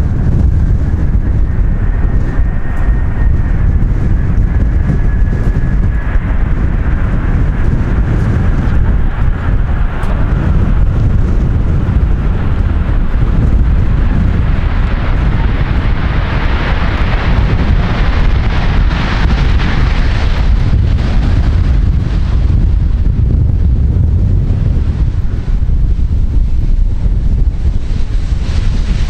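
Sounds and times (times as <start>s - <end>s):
jet airliner roar: 0.0s - 29.0s
wind buffeting microphone: 0.0s - 29.0s.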